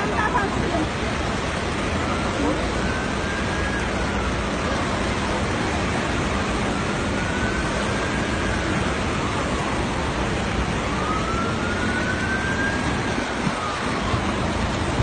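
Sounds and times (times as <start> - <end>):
loud steady rushing noise: 0.0 - 15.0
siren wailing: 0.0 - 15.0.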